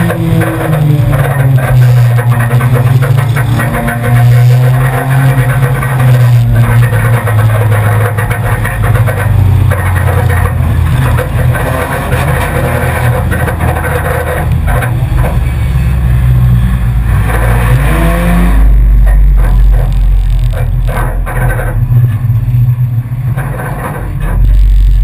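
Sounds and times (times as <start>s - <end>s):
knocks and rattles: 0.0s - 25.0s
race car engine running hard: 0.0s - 25.0s.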